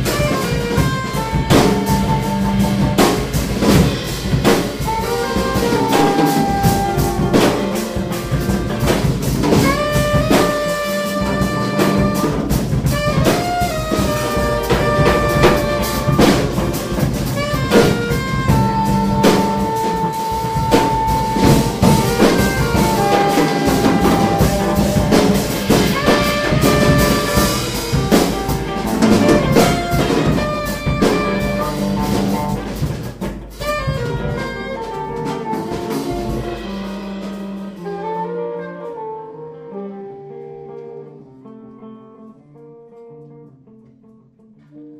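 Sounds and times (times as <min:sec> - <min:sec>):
busy drum kit drumming: 0:00.0 - 0:39.1
saxophone playing jazz: 0:00.0 - 0:44.9.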